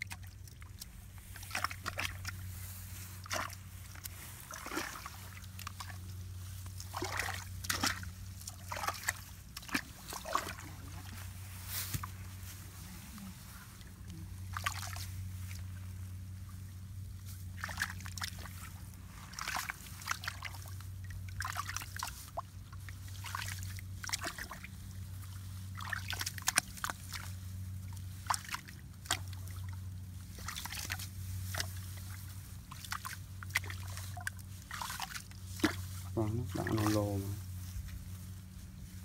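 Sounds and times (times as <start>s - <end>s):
steady low hum: 0.0s - 39.0s
water sloshing and splashing: 0.0s - 39.0s.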